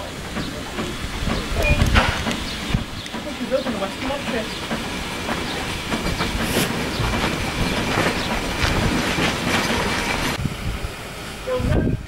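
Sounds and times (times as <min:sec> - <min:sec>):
steam locomotive clanking: 0:00.0 - 0:10.4
steam hiss: 0:00.0 - 0:12.0.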